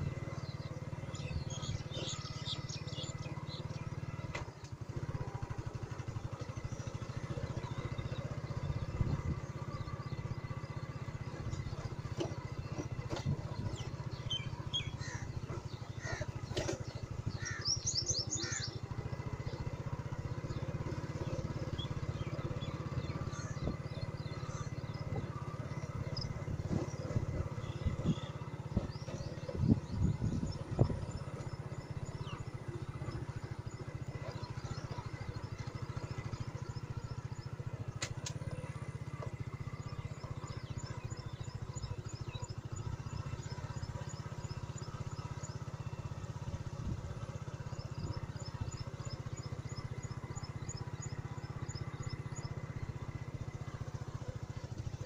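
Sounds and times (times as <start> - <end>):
birds chirping: 0.0 - 55.0
small engine droning: 0.0 - 55.0.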